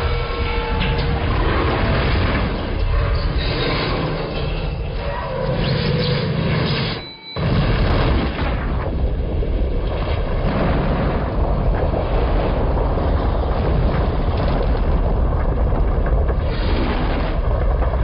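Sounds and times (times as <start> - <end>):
massive explosion blast: 0.0 - 4.0, 7.4 - 18.0
rolling fireball rumble: 0.0 - 5.6, 7.4 - 18.0.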